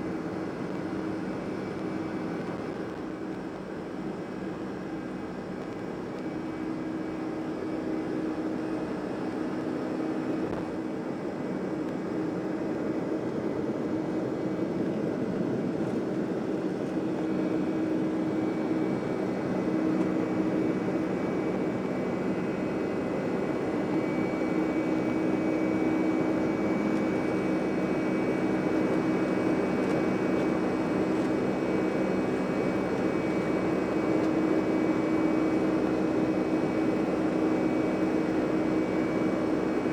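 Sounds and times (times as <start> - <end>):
jet engines humming: 0.0 - 39.9.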